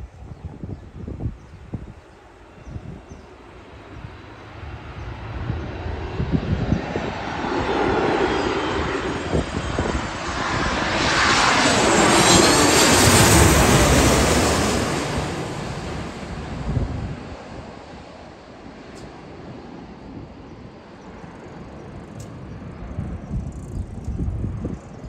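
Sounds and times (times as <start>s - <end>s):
airliner passing overhead: 0.0s - 25.0s.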